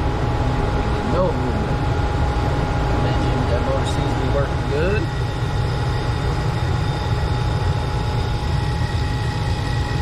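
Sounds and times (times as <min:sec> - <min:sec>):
faint steady whine: 0:00.0 - 0:10.0
furnace blower rumbling: 0:00.0 - 0:10.0.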